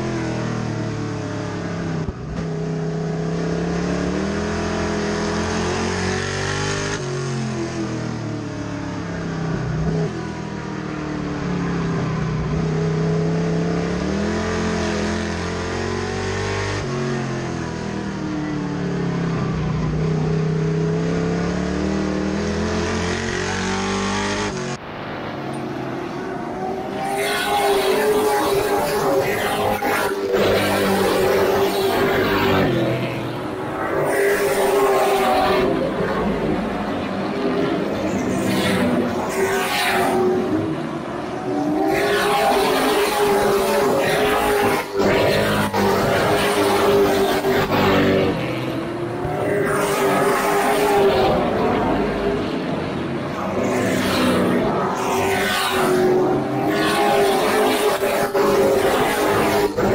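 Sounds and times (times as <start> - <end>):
race cars passing: 0.0 - 59.9.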